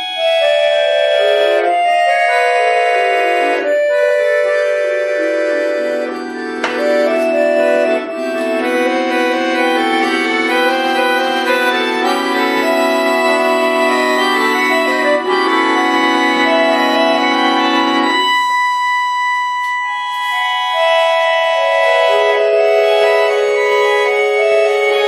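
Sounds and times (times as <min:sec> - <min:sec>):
button accordion melody: 0:00.0 - 0:25.0
low accordion chords: 0:00.0 - 0:25.0.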